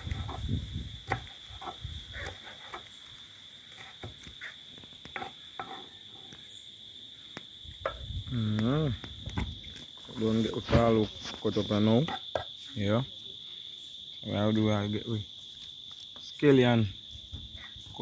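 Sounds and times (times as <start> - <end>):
high drone of insects: 0.0 - 18.0.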